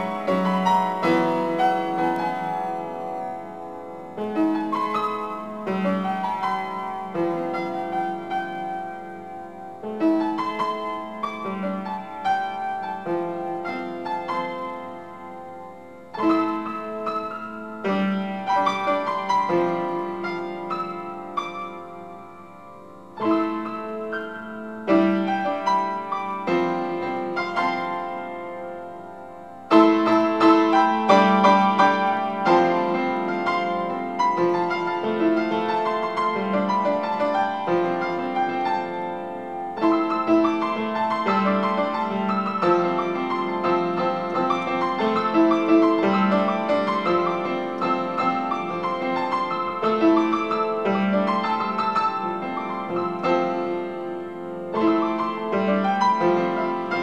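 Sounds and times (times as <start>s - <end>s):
piano playing: 0.0s - 57.0s.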